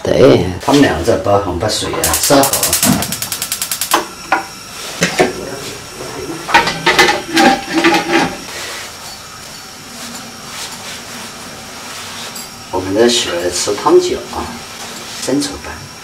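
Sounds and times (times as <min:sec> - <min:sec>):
gas burner hissing: 0:00.6 - 0:16.0.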